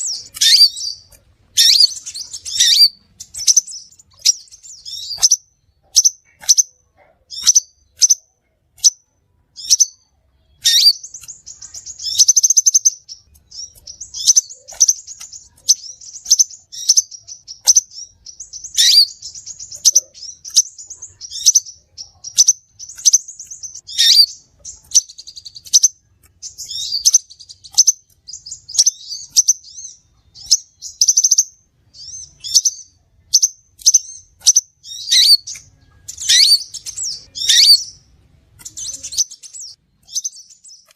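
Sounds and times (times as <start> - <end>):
bird chirps and buzzy trill: 0.0 - 40.9.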